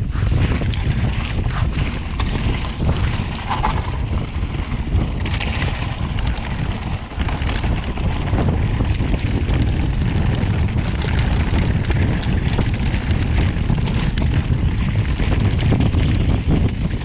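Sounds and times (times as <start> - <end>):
bike tyres clattering on stony track: 0.0 - 17.0
wind buffeting microphone: 0.0 - 17.0.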